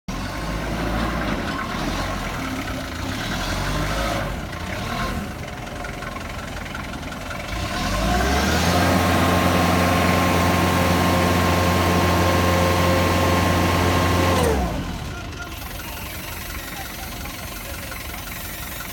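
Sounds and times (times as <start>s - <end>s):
diesel forklift engine running: 0.1s - 18.9s.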